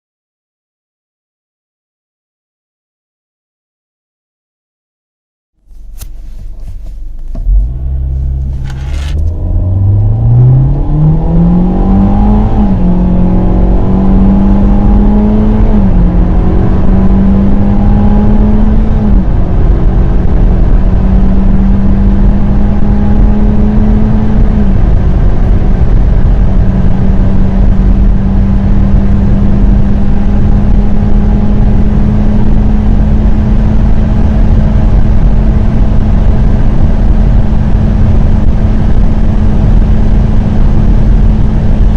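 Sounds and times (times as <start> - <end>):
car engine accelerating: 5.6 - 41.9
road and wind noise: 5.6 - 41.9.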